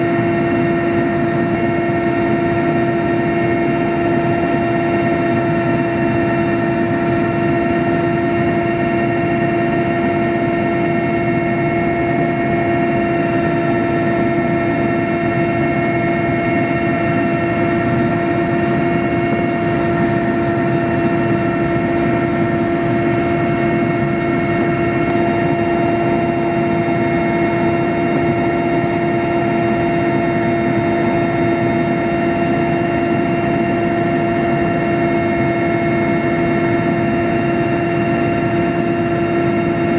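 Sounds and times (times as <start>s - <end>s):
aircraft engine and rotor drone: 0.0s - 39.9s
steady whine: 0.0s - 39.9s.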